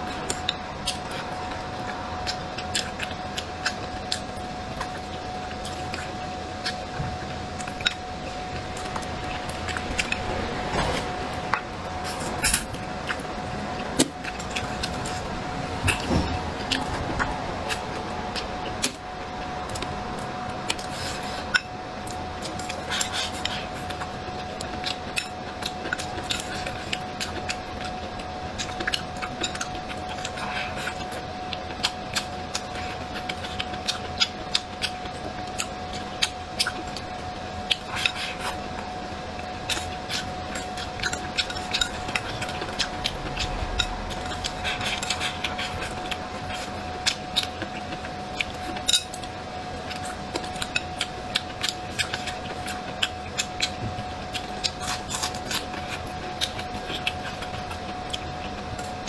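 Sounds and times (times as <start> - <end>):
person chewing food: 0.0 - 10.3, 10.9 - 59.0.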